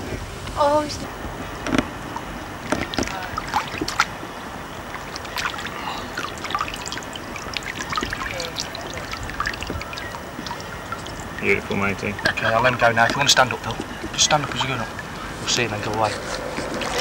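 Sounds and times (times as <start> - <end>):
water splashing and dripping: 2.2 - 17.0.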